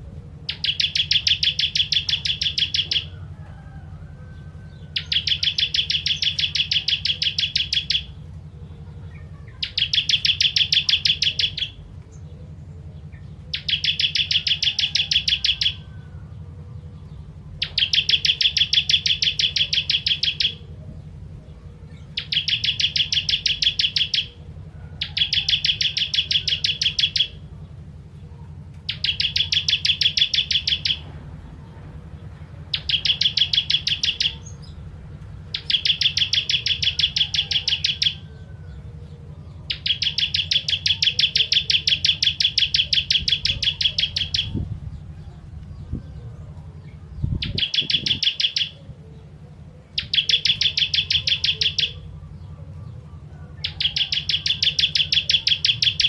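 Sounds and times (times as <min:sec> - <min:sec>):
bird chattering trills: 0:00.0 - 0:56.0
steady low hum: 0:00.0 - 0:56.0.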